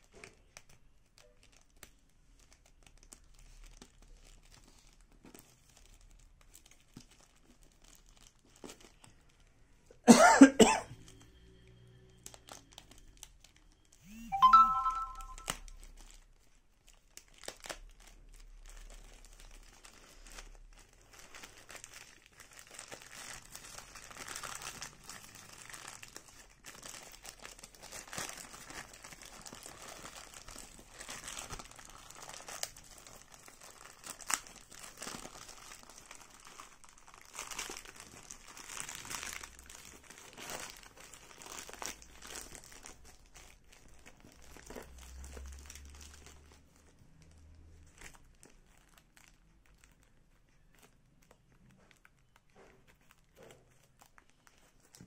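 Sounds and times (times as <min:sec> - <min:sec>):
plastic bag crinkling and tearing: 0:00.0 - 0:10.1, 0:12.2 - 0:55.0
plastic wrapping rustling: 0:00.0 - 0:10.1, 0:12.2 - 0:55.0.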